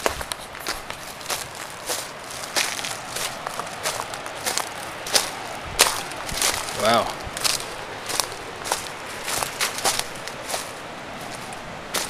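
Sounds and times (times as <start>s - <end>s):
footsteps crunching through dry leaves: 0.0s - 12.0s
river rapids rushing: 0.0s - 12.0s.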